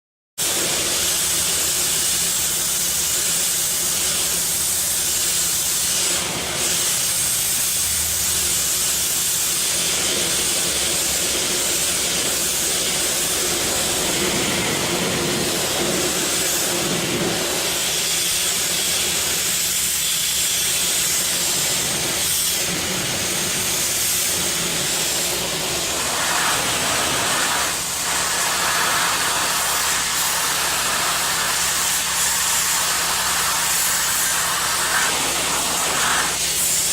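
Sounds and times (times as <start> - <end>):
fogger hissing: 0.5 - 36.9.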